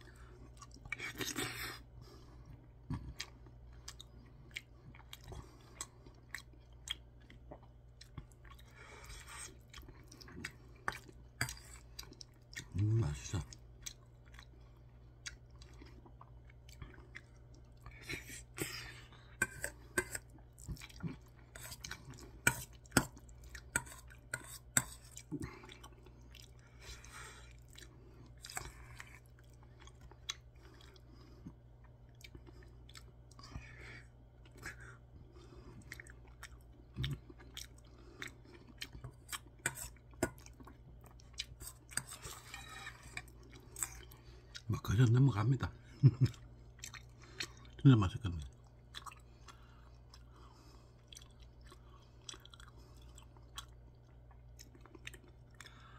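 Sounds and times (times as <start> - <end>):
person chewing: 0.0 - 44.7, 45.7 - 55.9
faint low hum: 0.0 - 55.9.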